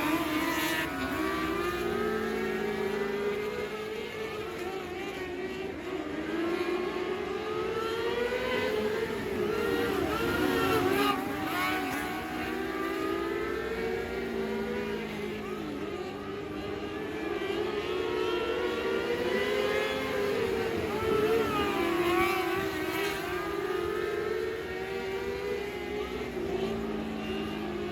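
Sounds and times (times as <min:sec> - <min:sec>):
race car engines: 0:00.0 - 0:27.9.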